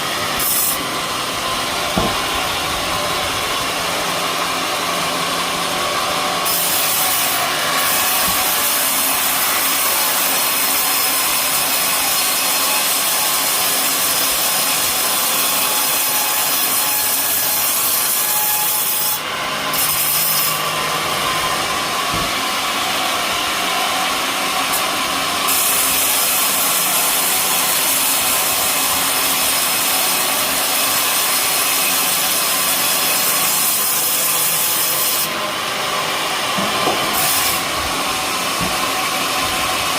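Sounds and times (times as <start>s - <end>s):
sawmill blade cutting wood: 0.0s - 39.9s.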